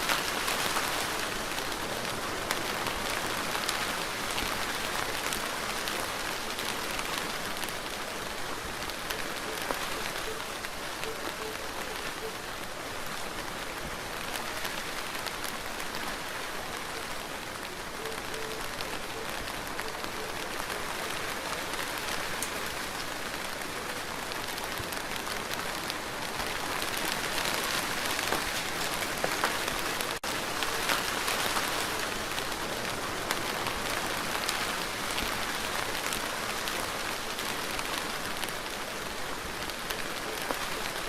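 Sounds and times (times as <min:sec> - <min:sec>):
steady rain pattering: 0:00.0 - 0:41.0.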